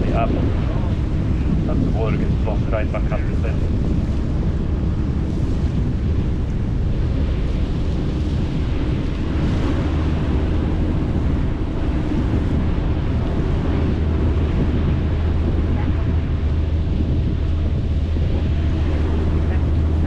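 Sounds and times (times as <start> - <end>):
boat engine rumble: 0.0 - 20.0
wind buffeting microphone: 0.0 - 20.0.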